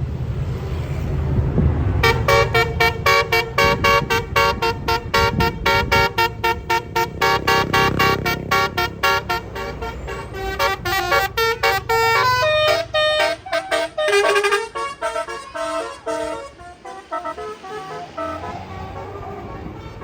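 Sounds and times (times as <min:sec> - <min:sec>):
bus engine rumble: 0:00.0 - 0:20.0
bus air horn tooting melody: 0:02.0 - 0:20.0.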